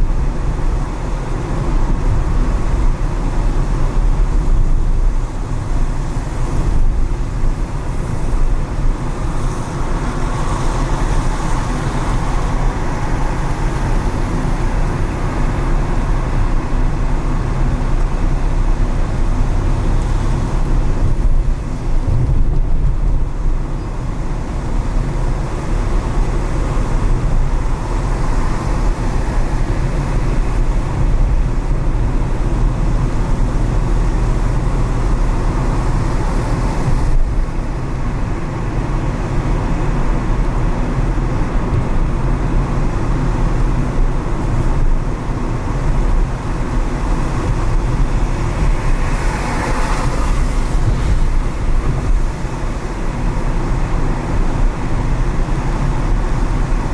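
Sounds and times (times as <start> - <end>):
car engine and tyre rumble: 0.0 - 56.9.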